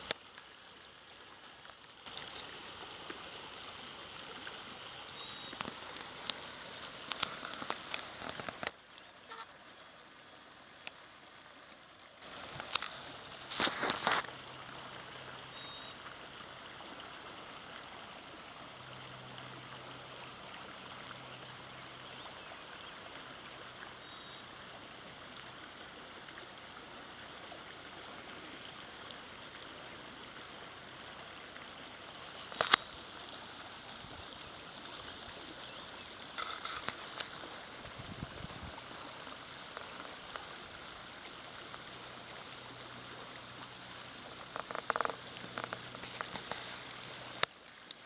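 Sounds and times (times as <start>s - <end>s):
brook trickling: 0.0s - 48.0s.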